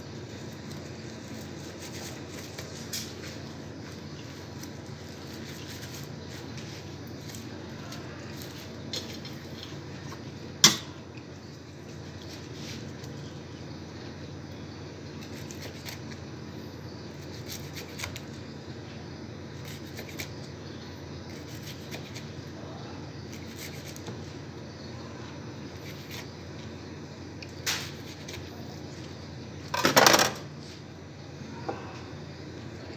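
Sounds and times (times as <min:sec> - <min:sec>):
background hum: 0:00.0 - 0:32.9.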